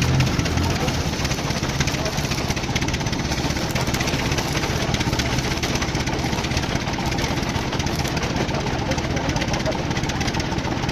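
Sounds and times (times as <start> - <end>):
engine idling with rapid pulsing: 0.0 - 10.9.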